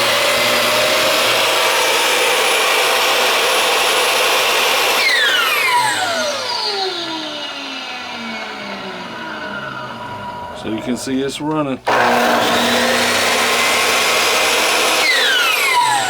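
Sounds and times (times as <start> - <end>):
circular saw whining: 0.0 - 16.0.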